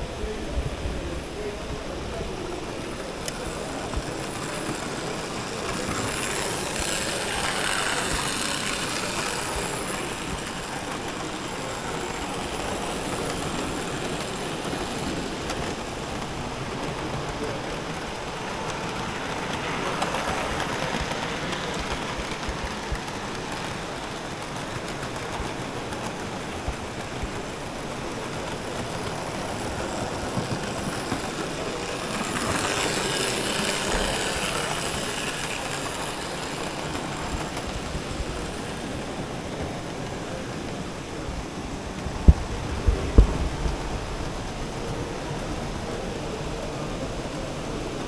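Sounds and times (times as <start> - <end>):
model trains rolling whir: 0.0 - 48.0.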